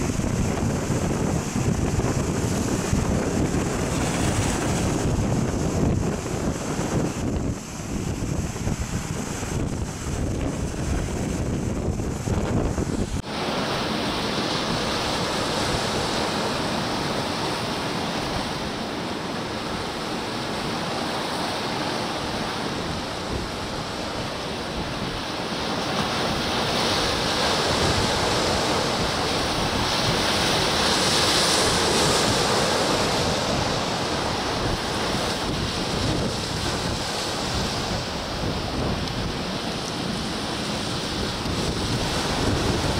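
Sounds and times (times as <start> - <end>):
waves breaking and rushing: 0.0 - 42.9
wind buffeting microphone: 0.0 - 42.9.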